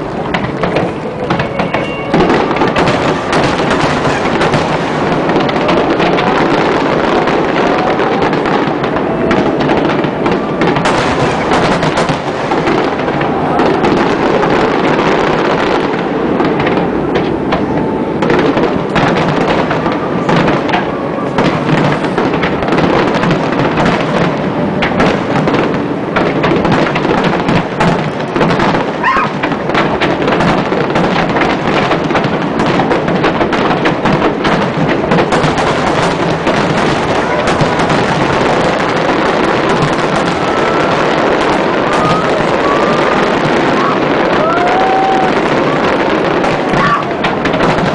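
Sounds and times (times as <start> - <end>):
rising firework whistle: 0.0 - 27.8, 28.4 - 33.0, 33.8 - 47.9
fireworks bursts and crackle: 0.0 - 47.9.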